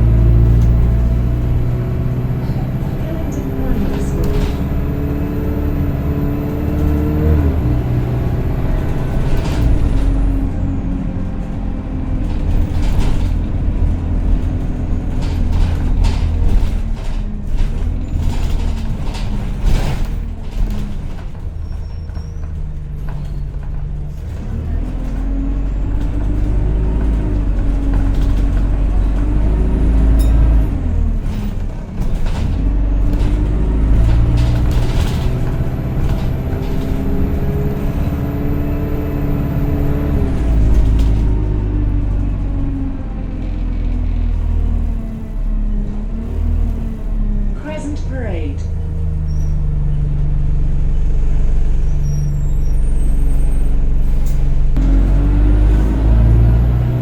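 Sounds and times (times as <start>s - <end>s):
bus body knocks and rattles: 0.0s - 47.9s
bus engine droning: 0.0s - 57.0s
bus whining tone: 0.0s - 57.0s.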